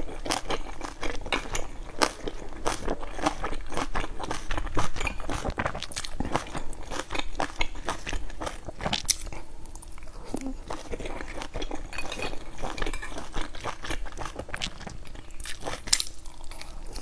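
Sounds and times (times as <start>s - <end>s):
close chewing and biting: 0.0s - 17.0s.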